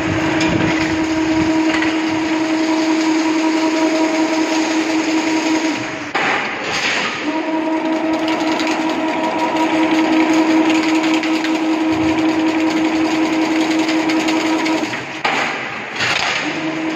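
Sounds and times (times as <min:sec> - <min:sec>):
loud machine clatter: 0:00.0 - 0:16.9
machine motor hum: 0:00.0 - 0:16.9.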